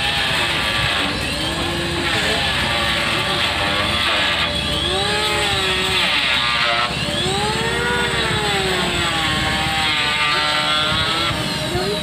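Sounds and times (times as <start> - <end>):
power tool grinding wood: 0.0 - 12.0.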